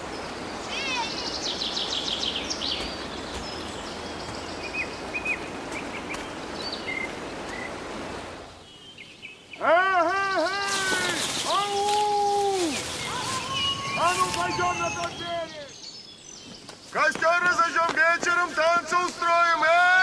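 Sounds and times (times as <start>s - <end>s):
small birds chirping: 0.0s - 19.4s
forest ambience hiss: 0.0s - 19.9s.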